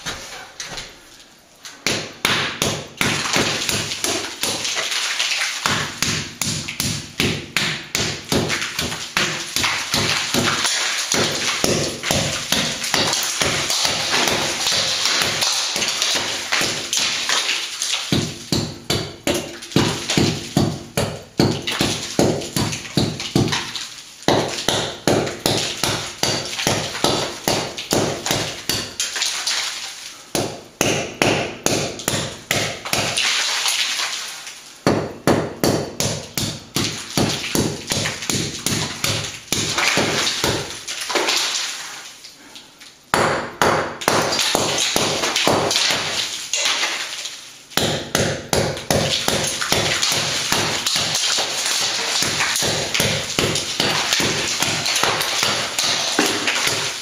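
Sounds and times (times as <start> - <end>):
hammer chipping plaster: 1.8 - 41.8, 43.1 - 57.0.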